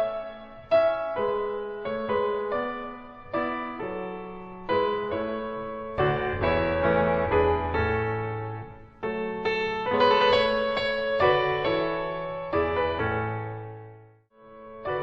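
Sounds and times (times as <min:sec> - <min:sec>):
gentle piano tune: 0:00.0 - 0:15.0.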